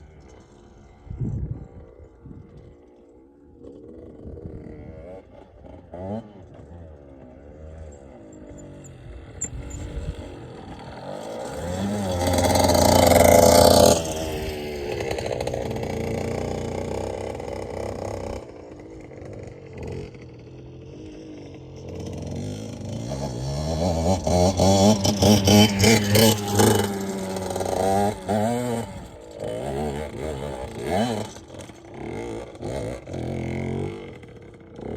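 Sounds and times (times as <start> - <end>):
motorcycle engine revving: 3.6 - 34.9.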